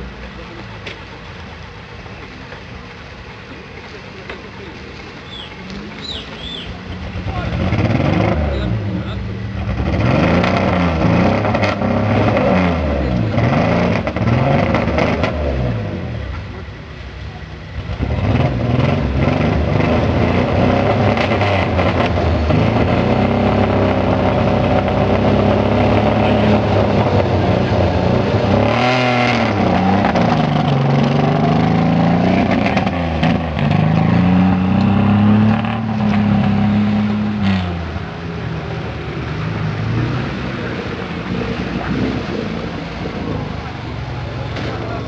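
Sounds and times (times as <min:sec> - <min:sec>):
off-road engines revving: 0:00.0 - 0:45.0.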